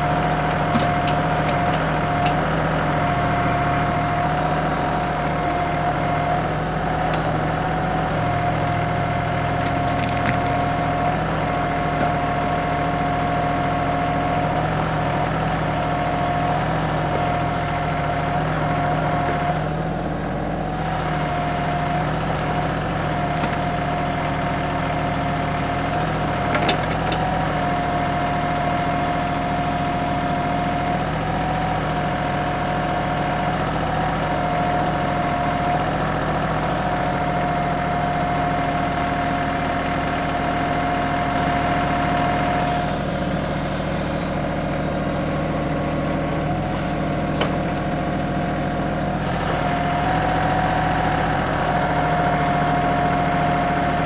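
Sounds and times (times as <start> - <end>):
diesel tractor engine under load: 0.0 - 54.0
steady hydraulic whine: 0.0 - 54.0.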